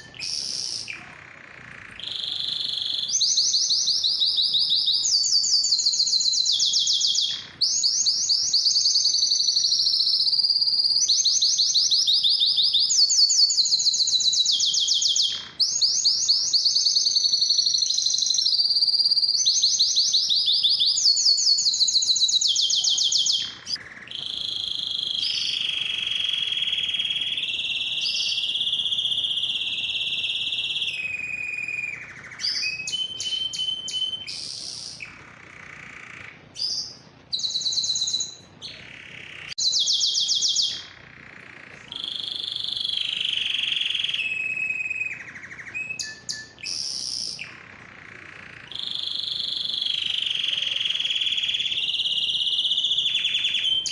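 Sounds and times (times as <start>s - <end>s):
canary singing: 0.0s - 53.9s.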